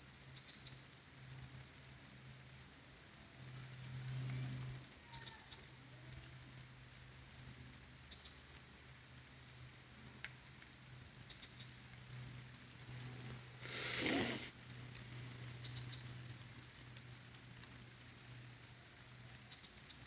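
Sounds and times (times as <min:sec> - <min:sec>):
light rain pattering: 0:00.0 - 0:20.0
small drip ticks: 0:00.2 - 0:13.6, 0:14.6 - 0:20.0.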